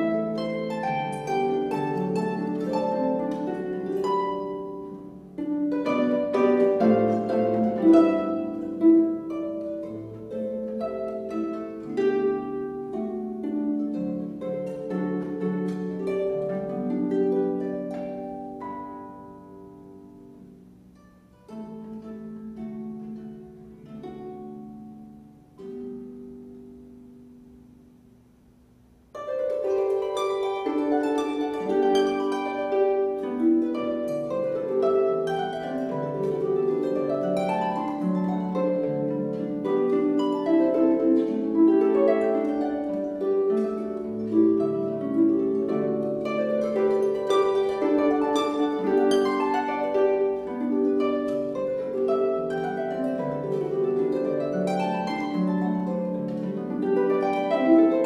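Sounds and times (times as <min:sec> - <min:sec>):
harp playing: 0:00.0 - 0:58.0.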